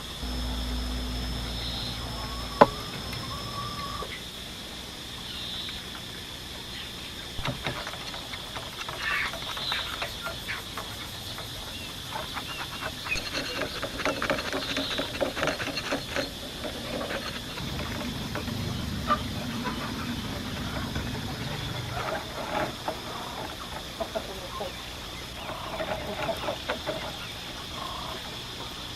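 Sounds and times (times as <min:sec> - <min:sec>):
high insect drone: 0:00.0 - 0:28.9.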